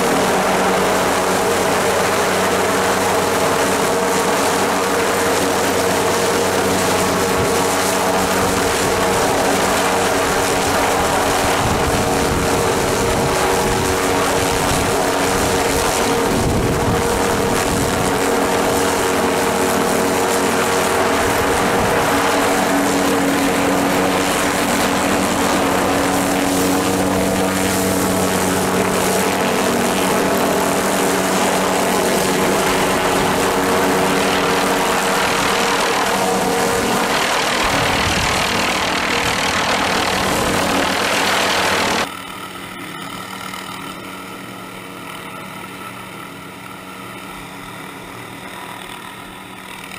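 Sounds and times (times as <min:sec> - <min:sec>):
helicopter hovering: 0:00.0 - 0:49.9.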